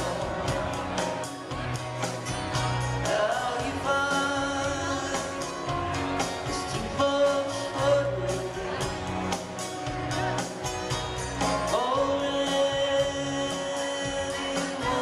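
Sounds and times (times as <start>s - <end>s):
acoustic guitar: 0.0s - 15.0s
bass: 0.0s - 15.0s
drum kit: 0.0s - 15.0s
mandolin: 0.0s - 15.0s
person singing lead vocal: 0.0s - 15.0s.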